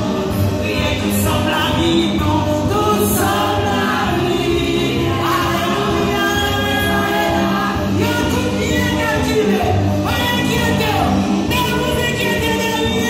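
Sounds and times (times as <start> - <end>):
congregation singing gospel song: 0.0 - 13.0
musical backing: 0.0 - 13.0.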